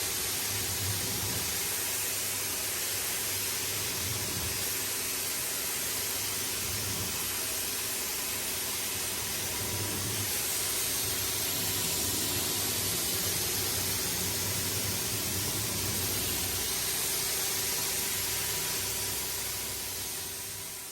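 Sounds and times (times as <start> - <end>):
pressure washer spraying: 0.0 - 20.6.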